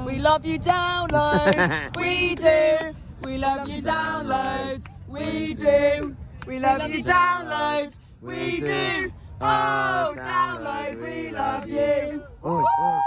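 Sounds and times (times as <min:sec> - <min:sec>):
group of voices singing: 0:01.9 - 0:12.6.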